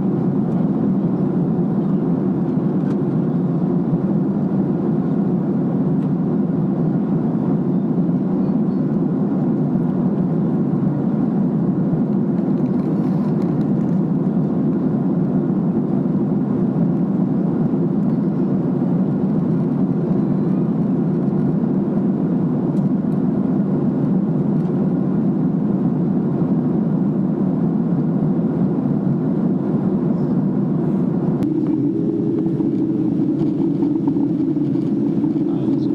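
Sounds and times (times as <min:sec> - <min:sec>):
airplane cabin engine drone: 0:00.0 - 0:35.9.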